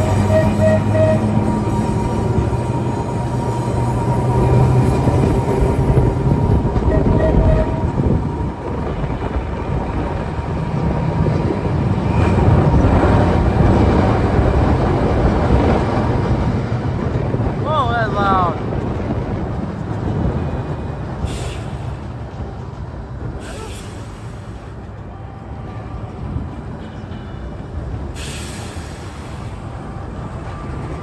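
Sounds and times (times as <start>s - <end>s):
streetcar wheels and motor rumble: 0.0s - 31.0s
wind noise: 0.0s - 31.0s.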